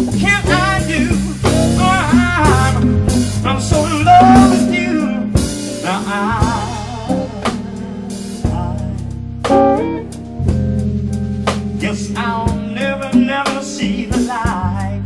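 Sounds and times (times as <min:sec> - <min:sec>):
wavering lead melody: 0:00.0 - 0:14.1
bass: 0:00.0 - 0:15.0
drum kit: 0:00.0 - 0:15.0
slow blues ballad: 0:00.0 - 0:15.0.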